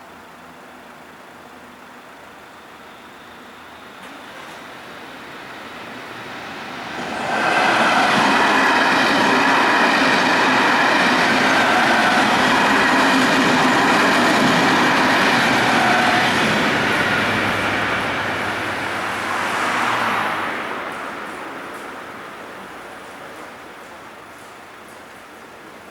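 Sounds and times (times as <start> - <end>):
electric train passing: 0.4 - 25.9.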